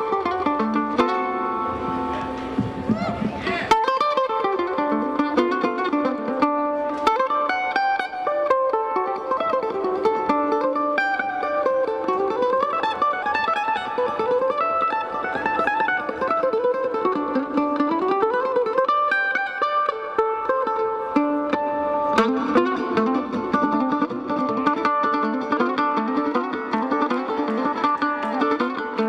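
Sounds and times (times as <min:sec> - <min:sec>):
mandolin solo: 0:00.0 - 0:29.0.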